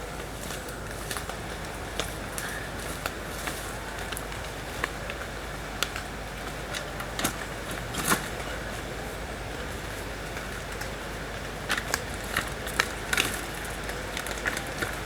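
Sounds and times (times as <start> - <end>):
camping gear clicks and rustles: 0.0 - 15.0.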